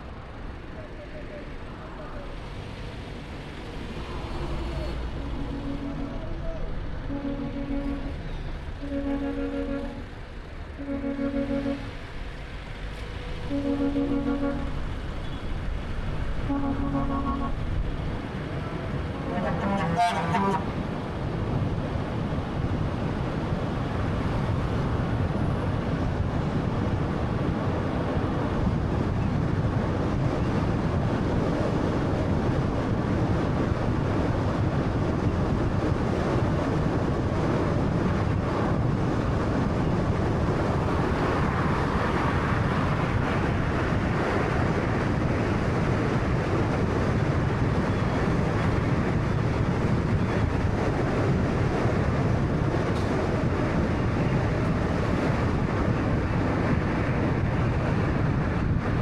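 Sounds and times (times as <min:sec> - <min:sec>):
wind noise: 0:02.3 - 0:59.0.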